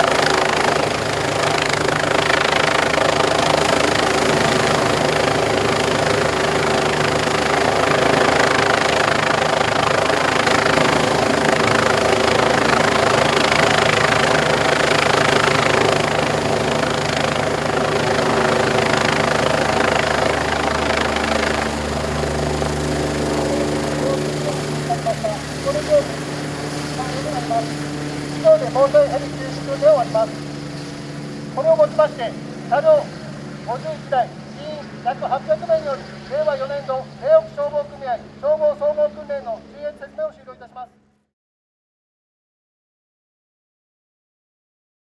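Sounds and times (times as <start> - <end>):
helicopter rotor noise: 0.0 - 41.1
helicopter turbine whine: 0.0 - 41.1.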